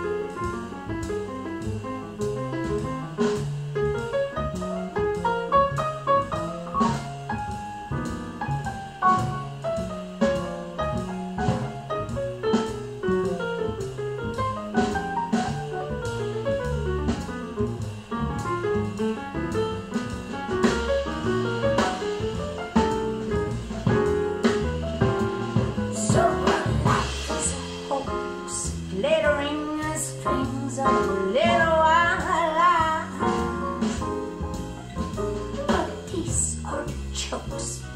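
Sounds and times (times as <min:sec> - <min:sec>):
drum kit: 0:00.0 - 0:37.9
piano: 0:00.0 - 0:37.9
walking bass: 0:00.0 - 0:37.9.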